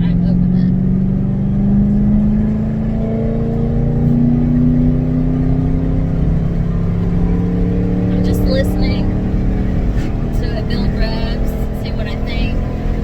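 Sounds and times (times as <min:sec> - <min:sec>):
car engine drone from inside cabin: 0:00.0 - 0:13.0.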